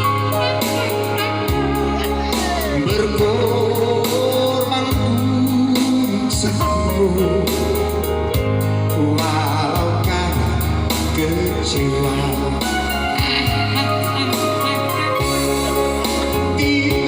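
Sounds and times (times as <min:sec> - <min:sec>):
bass line: 0:00.0 - 0:17.0
guitar: 0:00.0 - 0:17.0
person singing: 0:00.0 - 0:17.0.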